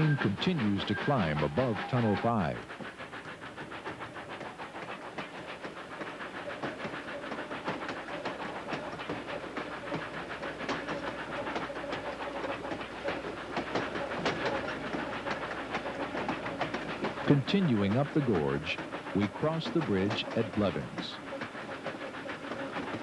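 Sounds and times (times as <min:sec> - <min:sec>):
rail clatter: 0:00.0 - 0:23.0
steam locomotive exhaust beat: 0:00.0 - 0:23.0.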